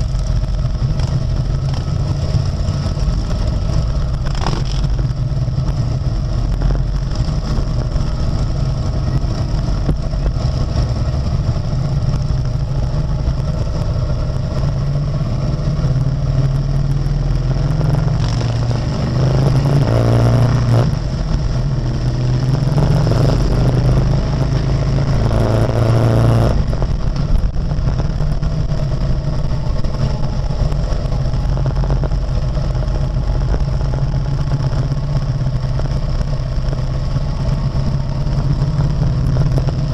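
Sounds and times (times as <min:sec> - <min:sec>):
motorcycle engine running: 0:00.0 - 0:39.9
other motorcycle engines: 0:00.0 - 0:39.9.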